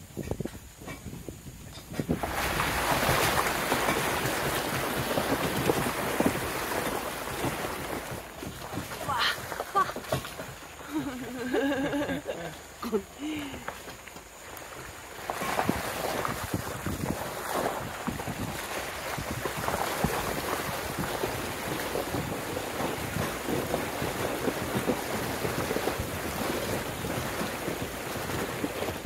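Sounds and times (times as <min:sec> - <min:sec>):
wind buffeting microphone: 0:00.0 - 0:10.2, 0:14.8 - 0:29.0
tyres splashing through puddles: 0:02.0 - 0:29.0.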